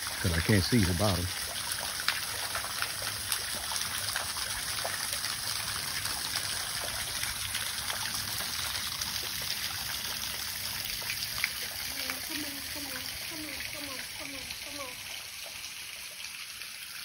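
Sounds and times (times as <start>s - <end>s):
water dripping ticks: 0.0s - 17.0s
water trickling into pool: 0.0s - 17.0s.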